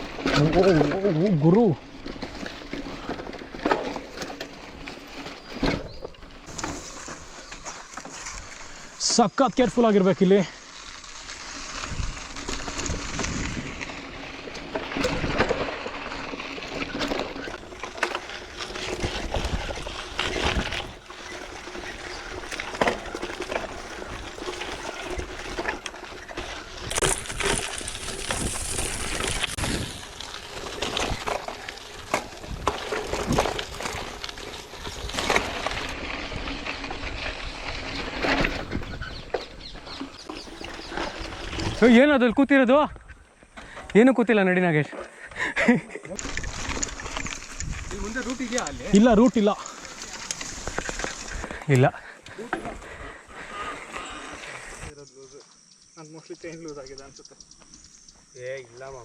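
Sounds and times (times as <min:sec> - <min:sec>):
bike rattling and knocking: 0:00.0 - 0:43.8, 0:44.9 - 0:54.9
bike tyres grinding over stones: 0:00.0 - 0:55.0, 0:55.8 - 0:59.0.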